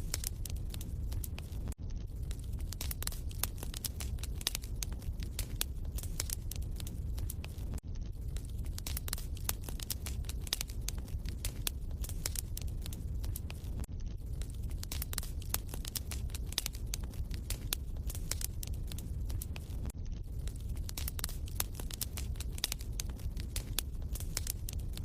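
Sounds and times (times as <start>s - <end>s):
low rumble: 0.0s - 25.0s
wood fire crackling: 0.0s - 25.0s.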